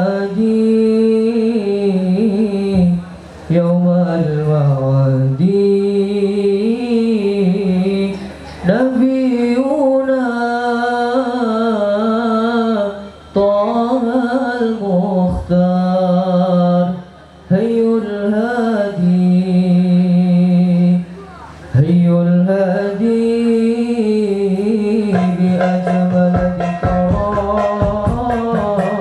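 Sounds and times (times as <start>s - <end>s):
person chanting devotional song: 0.0s - 29.0s.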